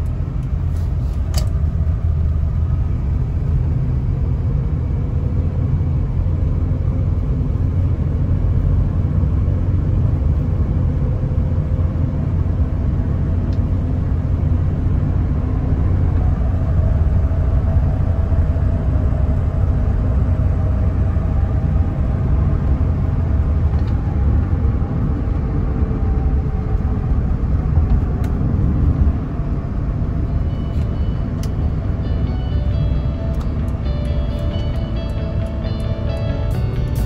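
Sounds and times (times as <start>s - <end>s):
road and engine rumble in car: 0.0s - 37.0s.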